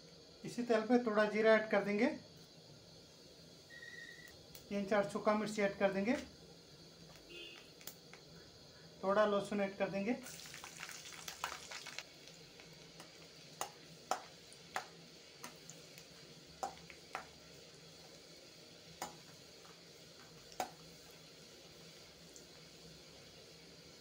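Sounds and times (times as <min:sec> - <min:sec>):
garlic sizzling in hot oil: 0:00.0 - 0:24.0.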